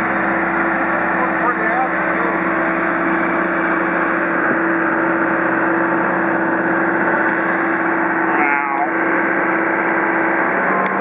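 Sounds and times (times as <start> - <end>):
engine droning steadily: 0.0 - 11.0.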